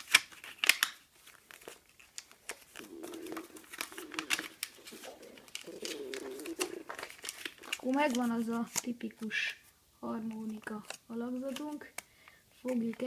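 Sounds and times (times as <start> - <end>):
paper crinkling as it is folded: 0.0 - 13.0.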